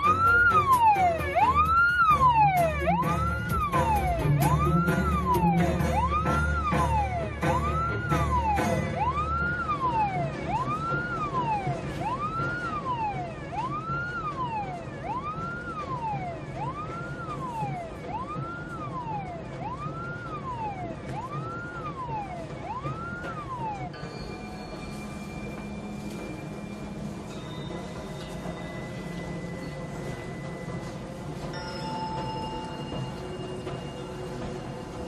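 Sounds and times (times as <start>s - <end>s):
siren wailing: 0.0s - 35.0s.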